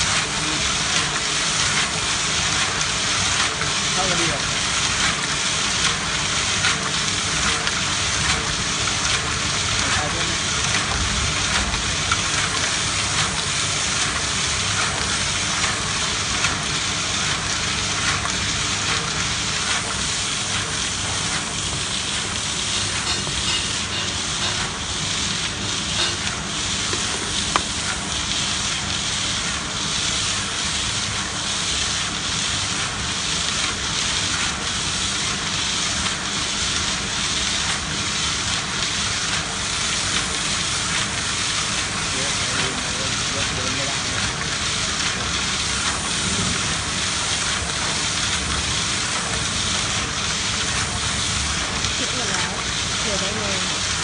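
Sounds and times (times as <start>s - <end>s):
concrete mixer churning sand: 0.0s - 54.0s.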